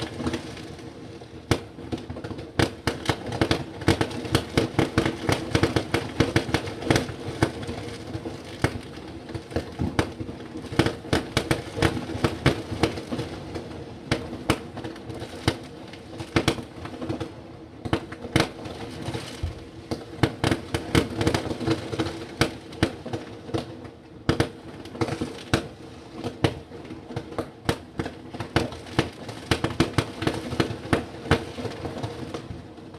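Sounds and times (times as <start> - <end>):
fireworks bangs and cracks: 0.0 - 32.9.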